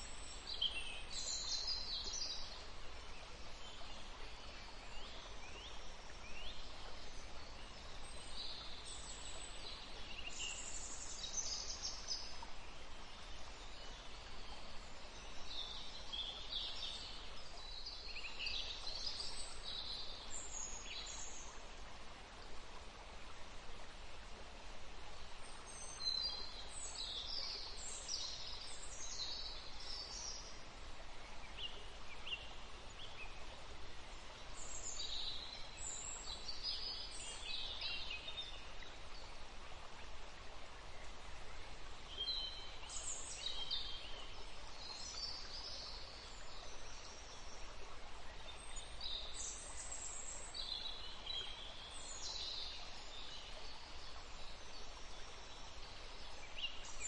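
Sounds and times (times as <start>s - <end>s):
background hiss: 0.0s - 57.0s.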